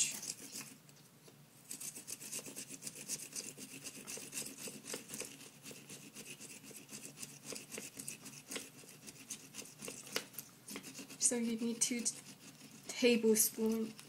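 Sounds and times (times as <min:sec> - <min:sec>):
ginger rasping on a grater: 0:01.7 - 0:14.0.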